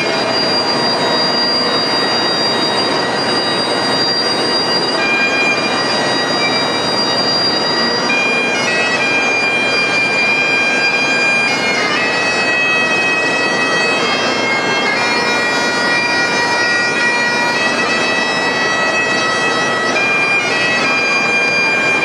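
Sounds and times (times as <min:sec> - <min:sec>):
bagpipes playing melody: 0:00.0 - 0:22.0.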